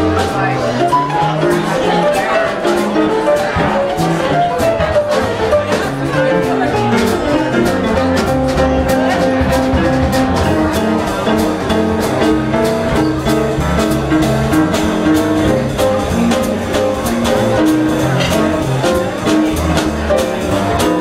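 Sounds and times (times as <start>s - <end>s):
jazz band playing: 0.0s - 21.0s.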